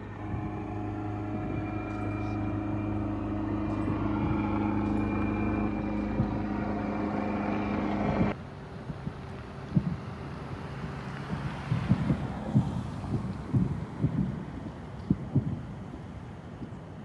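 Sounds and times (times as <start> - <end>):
vehicle engine running: 0.0 - 16.5.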